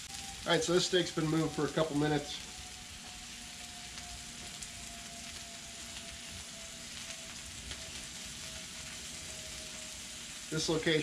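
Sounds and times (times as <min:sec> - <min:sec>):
steak sizzling on griddle: 0:00.0 - 0:11.0.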